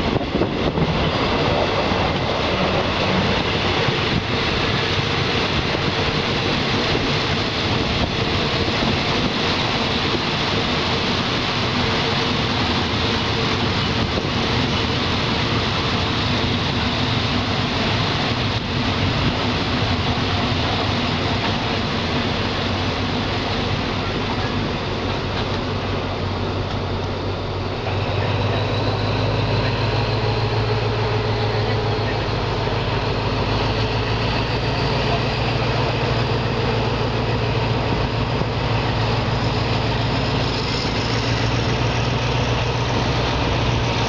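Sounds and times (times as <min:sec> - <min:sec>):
train rumbling at speed: 0:00.0 - 0:44.0.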